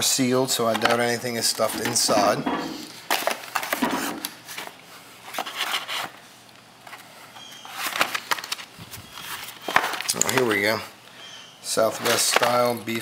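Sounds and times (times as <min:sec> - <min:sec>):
paper and cardboard packs rustling: 0:00.0 - 0:10.9, 0:11.6 - 0:13.0.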